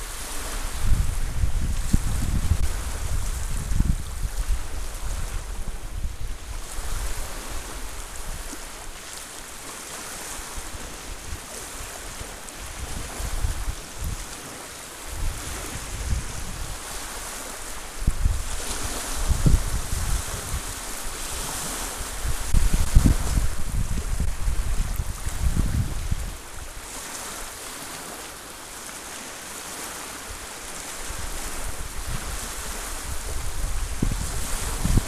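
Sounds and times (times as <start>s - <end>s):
wind buffeting microphone: 0.0s - 8.8s, 10.5s - 14.3s, 15.1s - 26.8s, 31.0s - 35.0s
waves lapping on shore: 0.0s - 35.0s.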